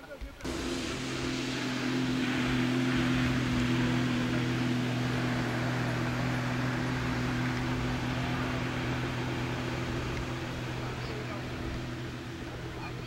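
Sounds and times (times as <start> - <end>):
jet ski engine running: 0.4 - 13.0.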